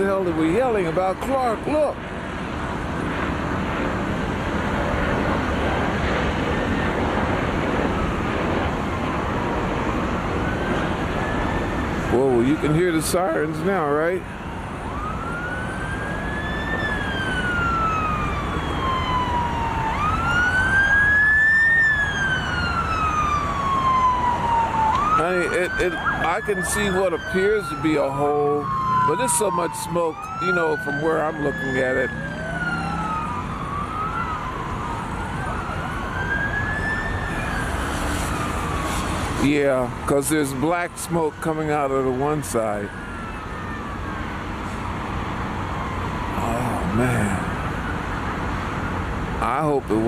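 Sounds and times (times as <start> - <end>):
emergency siren wailing: 0.0 - 50.0
highway traffic rumble: 0.0 - 50.0.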